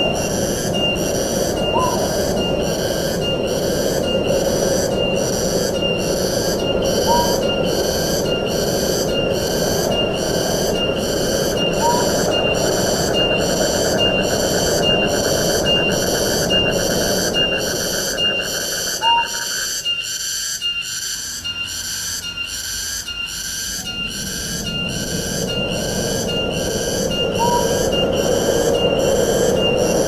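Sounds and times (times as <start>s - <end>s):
high pulsing call: 0.0s - 30.0s
wind through trees: 0.0s - 30.0s.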